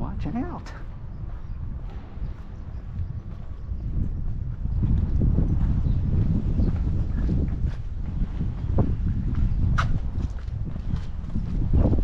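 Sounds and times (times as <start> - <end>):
footsteps on concrete: 0.0 - 12.0
wind rumble on microphone: 0.0 - 12.0.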